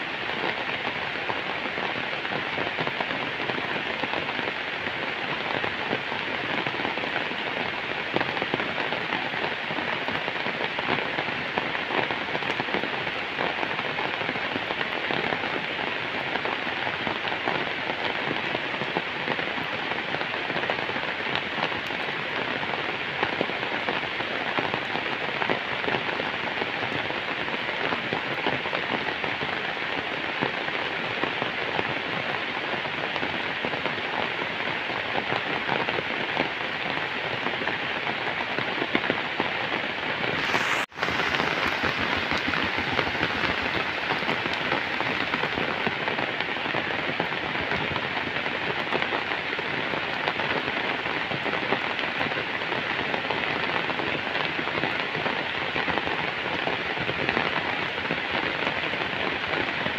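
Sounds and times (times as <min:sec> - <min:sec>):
rain on leaves and wet road: 0:00.0 - 0:59.9.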